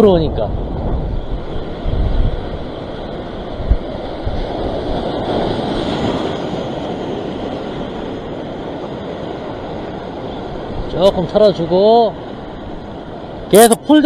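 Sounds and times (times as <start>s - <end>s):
wind buffeting microphone: 0.0s - 13.6s
surf breaking over rocks: 0.0s - 14.0s.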